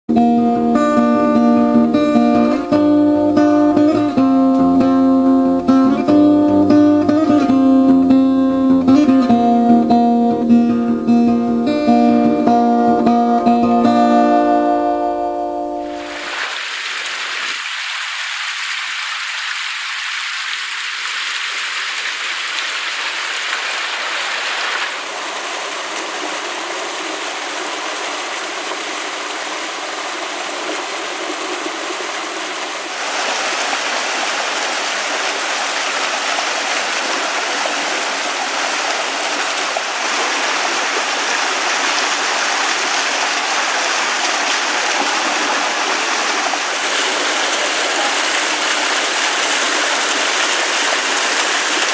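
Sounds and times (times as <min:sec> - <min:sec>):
stream rushing over rocks: 0:09.3 - 0:51.9.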